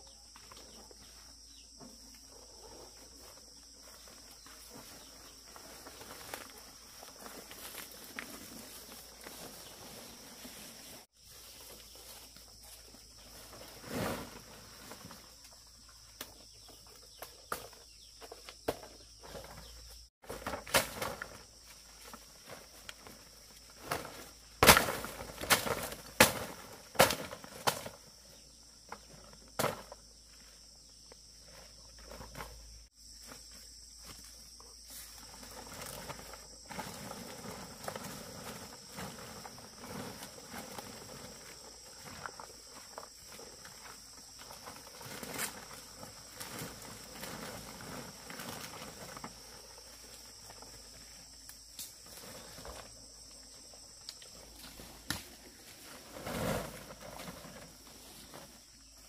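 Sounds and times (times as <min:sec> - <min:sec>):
high insect drone: 0:00.0 - 0:59.0
snaps and rustling in undergrowth: 0:03.2 - 0:19.5, 0:20.2 - 0:28.2, 0:33.2 - 0:58.7.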